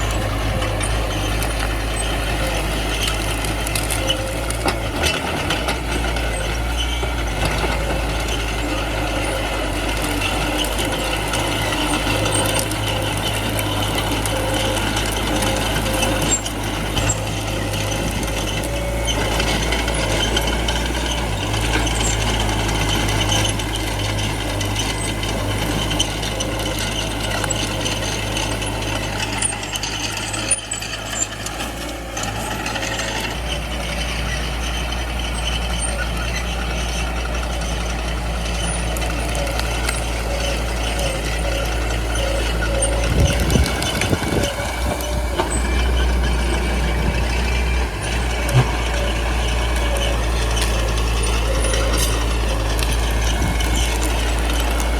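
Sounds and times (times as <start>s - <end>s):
diesel engine running: 0.0s - 54.9s
steel tracks rattling: 0.0s - 54.9s.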